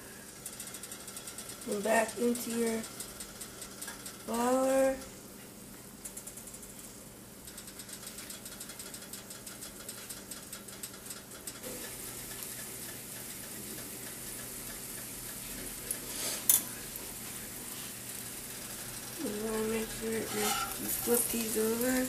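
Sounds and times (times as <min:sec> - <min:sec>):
sausage frying in hot oil: 0:00.1 - 0:22.0.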